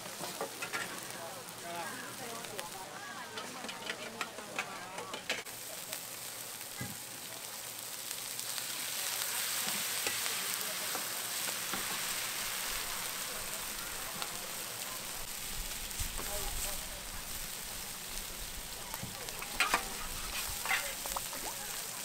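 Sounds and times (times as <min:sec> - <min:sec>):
food sizzling: 0:00.0 - 0:22.0.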